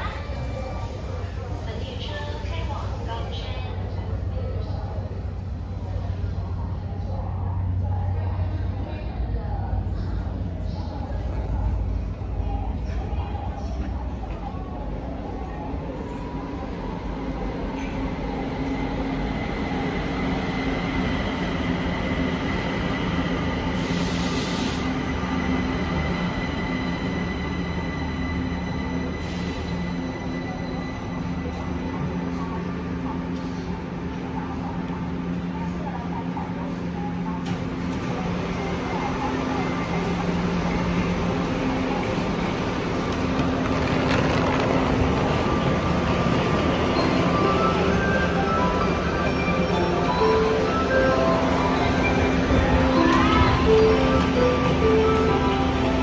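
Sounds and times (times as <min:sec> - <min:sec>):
metro train running: 0:00.0 - 0:56.0.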